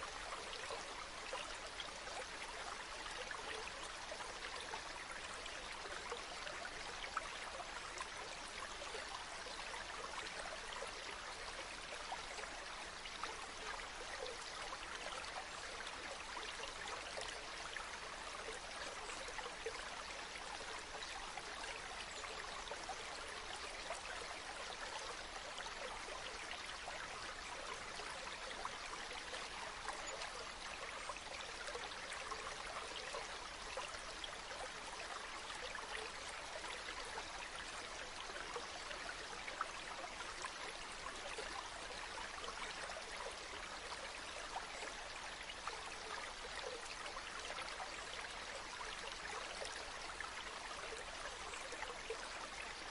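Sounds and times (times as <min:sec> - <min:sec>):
stream babbling: 0:00.0 - 0:52.9.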